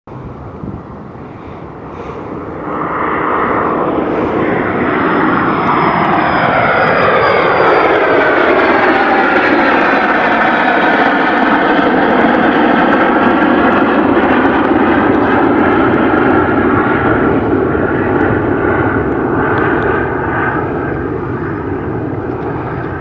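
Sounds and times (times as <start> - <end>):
jet engines roaring with whine: 0.1 - 23.0.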